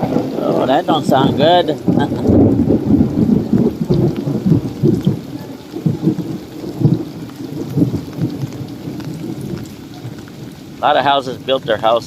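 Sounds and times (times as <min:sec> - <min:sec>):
heavy rain: 0:00.0 - 0:12.0
low rumbling thunder: 0:00.0 - 0:12.0.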